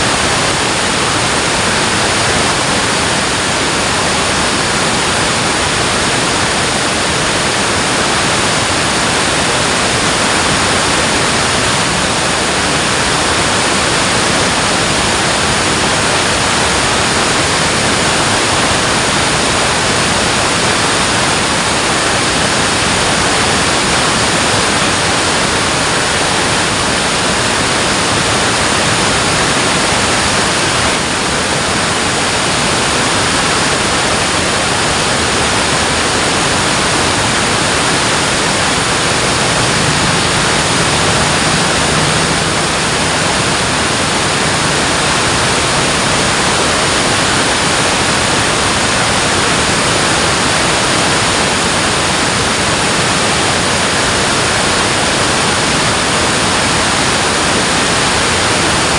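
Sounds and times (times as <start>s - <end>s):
water rushing over a dam: 0.0s - 58.9s.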